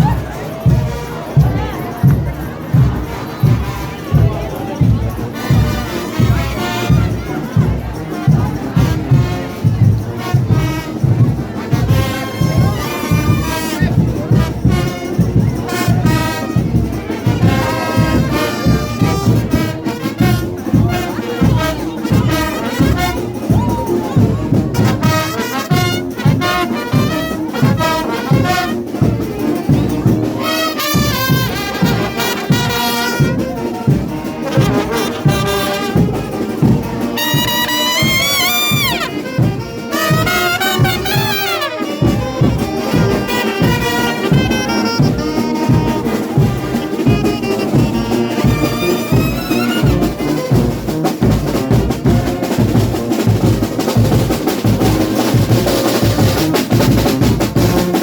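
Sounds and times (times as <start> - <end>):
brass band playing fast tune: 0.0 - 58.0.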